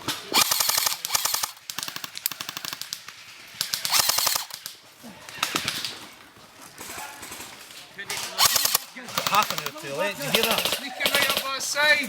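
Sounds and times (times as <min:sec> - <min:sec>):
airsoft guns firing bursts: 0:00.0 - 0:04.8, 0:06.8 - 0:12.0.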